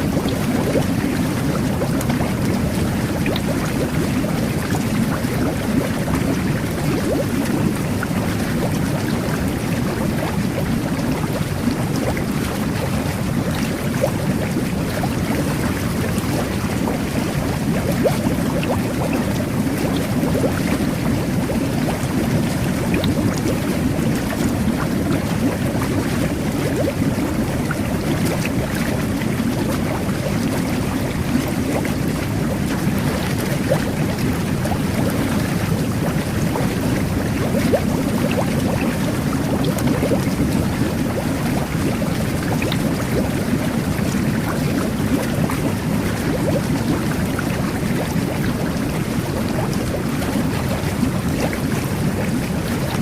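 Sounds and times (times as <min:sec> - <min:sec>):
bubbles popping: 0:00.0 - 0:53.0
whirlpool tub jets churning: 0:00.0 - 0:53.0.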